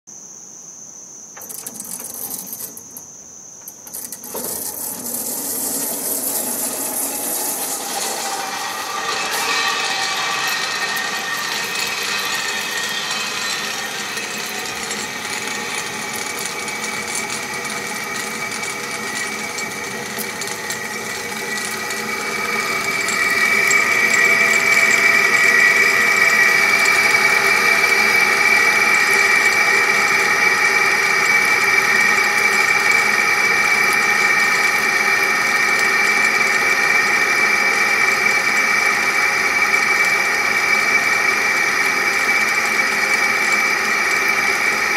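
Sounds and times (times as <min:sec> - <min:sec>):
cable car mechanism whirring: 0:04.0 - 0:44.9.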